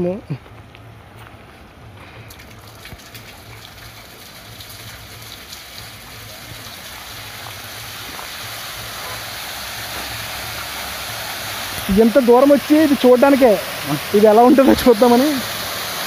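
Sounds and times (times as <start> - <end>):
waterfall pouring and splashing: 2.0 - 16.0.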